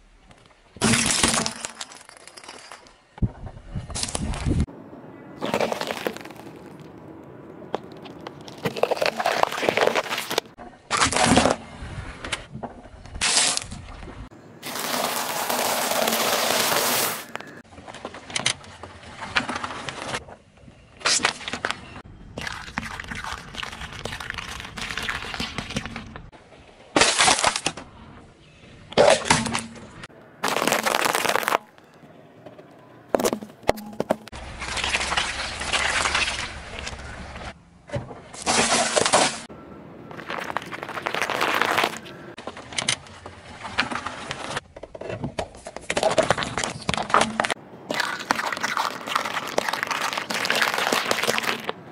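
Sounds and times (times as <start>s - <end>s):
car tyre crushing objects: 0.3s - 3.2s, 5.4s - 23.2s, 24.5s - 28.0s, 28.9s - 32.0s, 33.1s - 39.5s, 40.1s - 51.9s.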